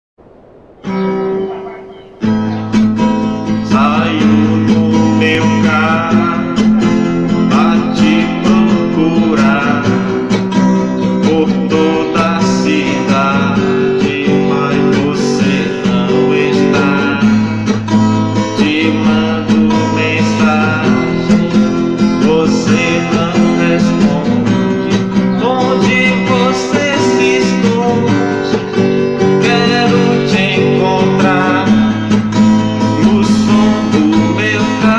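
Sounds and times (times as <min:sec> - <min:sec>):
guitar music on car stereo: 0:00.4 - 0:34.9.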